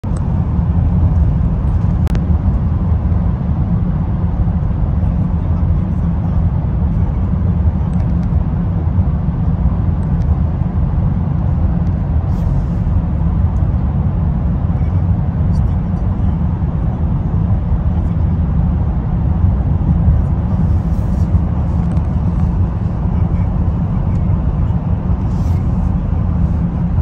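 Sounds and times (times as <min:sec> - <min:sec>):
car road and tyre rumble: 0:00.0 - 0:27.0.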